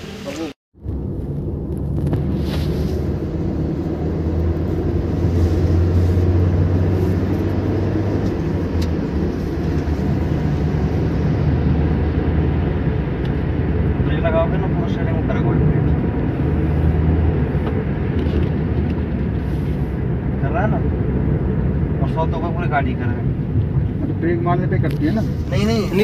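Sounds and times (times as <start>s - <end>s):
car engine and road noise drone: 0.0s - 26.0s.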